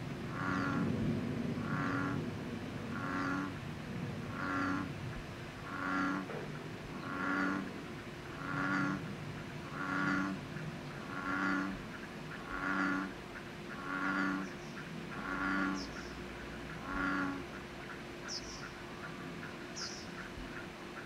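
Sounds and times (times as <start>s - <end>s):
frog croaking: 0.3s - 0.9s, 1.6s - 2.3s, 2.9s - 3.6s, 4.2s - 5.0s, 5.6s - 21.0s.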